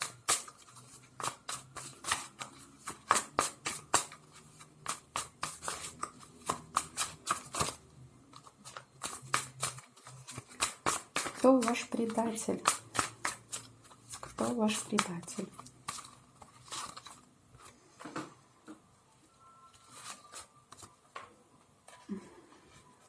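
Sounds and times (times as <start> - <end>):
cards being shuffled: 0.0 - 17.8, 19.8 - 21.0.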